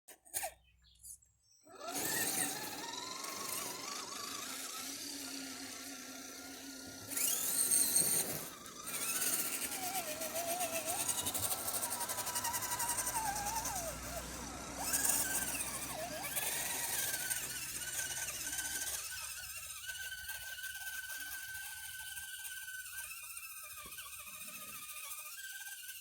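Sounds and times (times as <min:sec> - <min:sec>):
electric motor and gearbox whining: 0:01.7 - 0:26.0.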